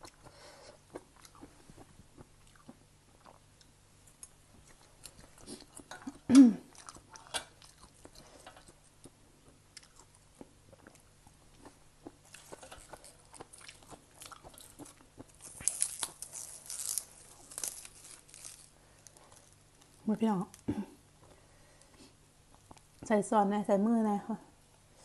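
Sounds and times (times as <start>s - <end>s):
person chewing crunchy vegetables: 0.0s - 20.0s, 22.5s - 23.0s.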